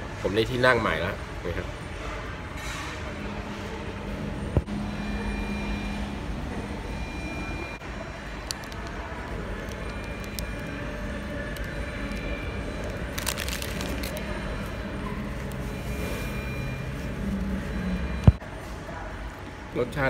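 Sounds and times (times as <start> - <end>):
restaurant room noise rumble: 0.0 - 20.0.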